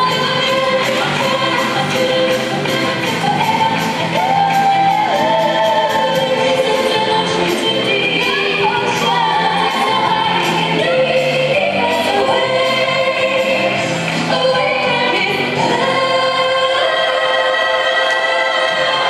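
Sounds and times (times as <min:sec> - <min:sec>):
choral music with held notes: 0:00.0 - 0:19.0.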